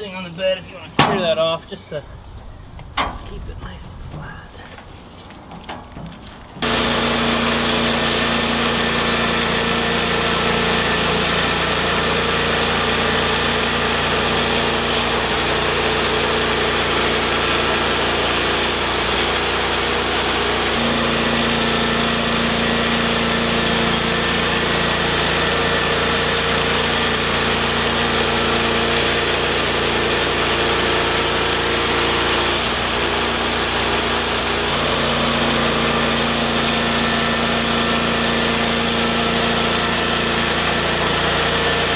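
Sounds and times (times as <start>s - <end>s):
sawmill engine and blade running: 5.7s - 41.9s.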